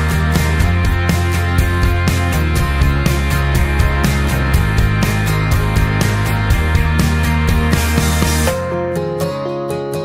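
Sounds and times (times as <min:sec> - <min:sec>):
music with a quick beat: 0:00.0 - 0:08.8.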